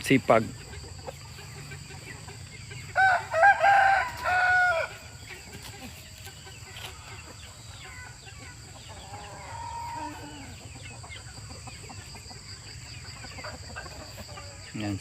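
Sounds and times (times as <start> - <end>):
chickens clucking and calling: 0.0 - 15.0.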